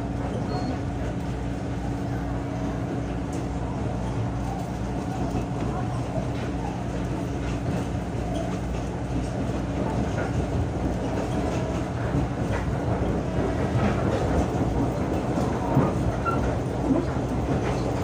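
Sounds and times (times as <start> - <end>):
track clicks and clatter: 0.0 - 18.0
train wheels rumbling on rails: 0.0 - 18.0.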